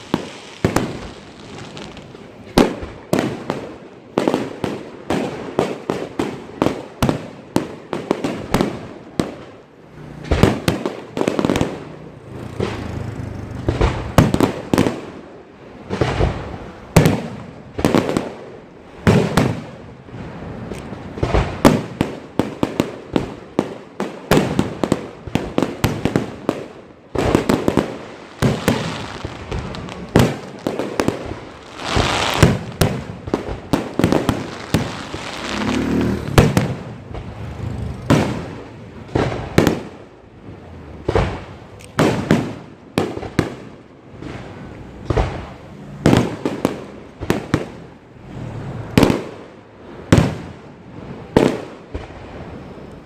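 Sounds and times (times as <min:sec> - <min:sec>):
fireworks banging and crackling: 0:00.0 - 0:53.0.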